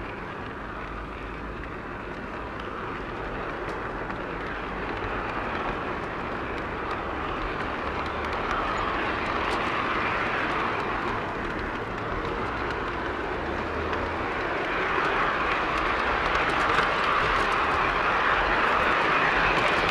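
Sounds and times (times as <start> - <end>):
faint irregular clicks: 0.0 - 19.9
model train rolling rumble: 0.0 - 19.9.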